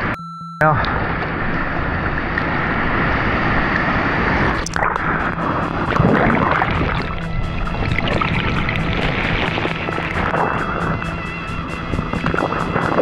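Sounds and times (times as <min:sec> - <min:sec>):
wind noise on microphone: 0:00.9 - 0:13.0
seawater rushing and churning: 0:01.0 - 0:13.0
sharp water splash: 0:02.3 - 0:13.0.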